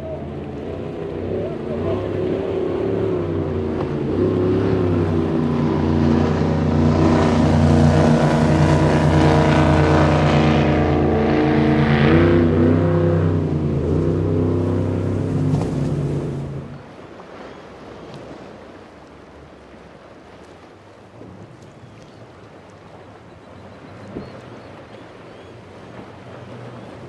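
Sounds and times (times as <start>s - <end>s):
hull spray and rushing water: 0.0s - 27.0s
powerboat engines droning: 0.0s - 27.0s.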